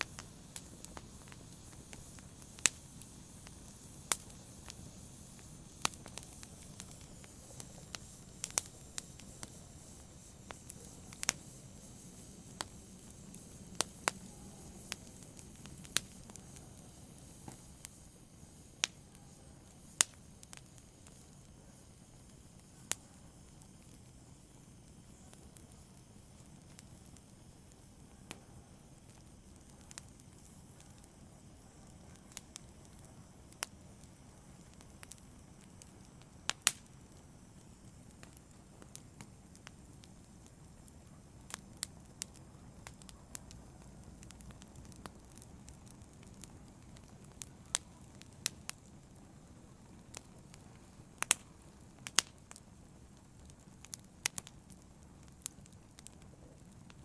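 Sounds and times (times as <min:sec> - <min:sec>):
hiss of burning: 0:00.0 - 0:57.0
wood fire crackling and popping: 0:00.0 - 0:57.0.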